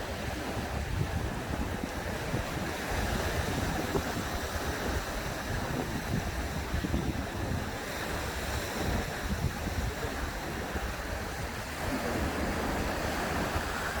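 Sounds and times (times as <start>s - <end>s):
sea waves washing ashore: 0.0s - 14.0s
wind buffeting microphone: 0.0s - 14.0s.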